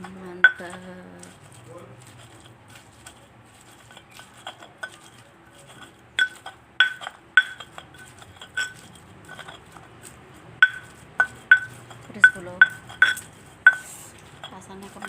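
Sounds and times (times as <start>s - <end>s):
metal spoon clinking on dish: 0.0s - 1.4s, 2.1s - 15.0s.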